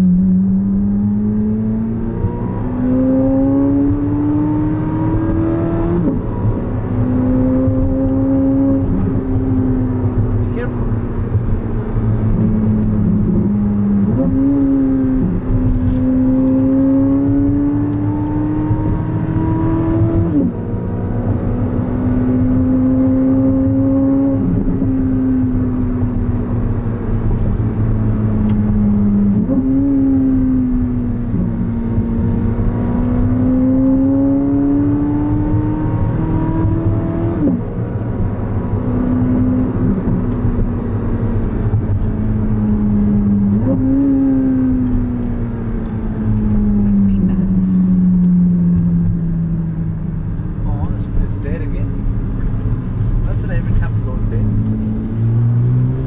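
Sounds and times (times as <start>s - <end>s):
car engine accelerating through gears: 0.0s - 56.0s
road rumble: 0.0s - 56.0s.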